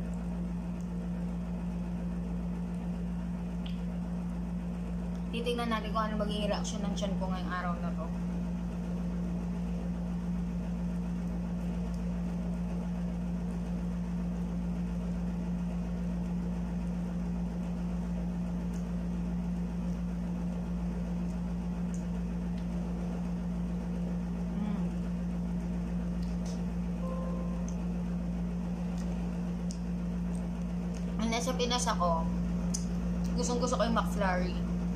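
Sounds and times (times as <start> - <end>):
low machine hum: 0.0 - 34.9.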